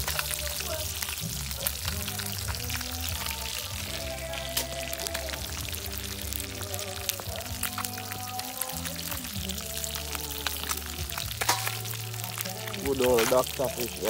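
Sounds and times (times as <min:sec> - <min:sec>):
music with bass line: 0:00.0 - 0:14.0
oil sizzling in a pot: 0:00.0 - 0:14.0.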